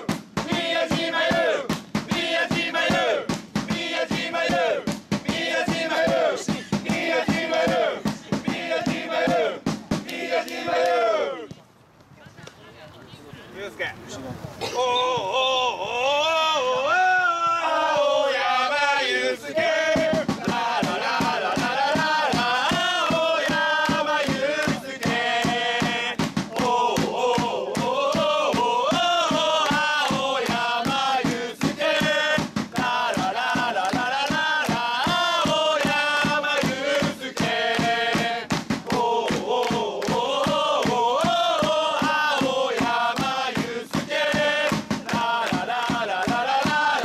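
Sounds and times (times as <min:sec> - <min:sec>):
steady drum beat: 0:00.0 - 0:11.1, 0:19.4 - 0:47.0
crowd singing a chant: 0:00.0 - 0:11.5, 0:14.8 - 0:47.0.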